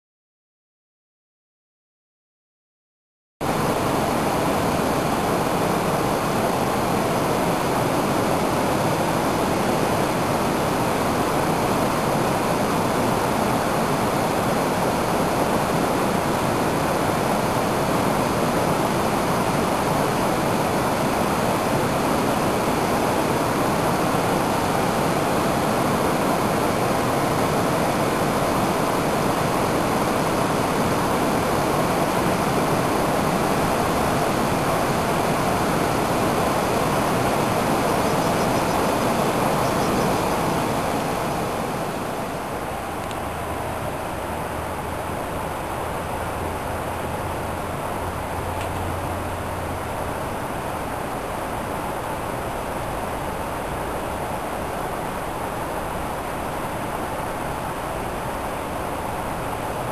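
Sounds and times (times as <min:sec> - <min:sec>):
steady rushing noise: 0:03.4 - 0:59.9.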